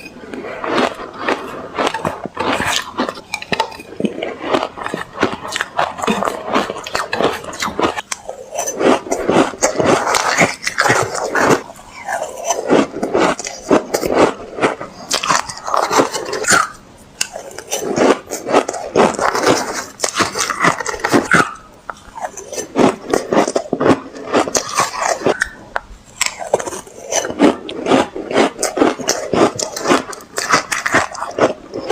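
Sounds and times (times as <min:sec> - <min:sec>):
ice being chewed: 0:00.0 - 0:31.9.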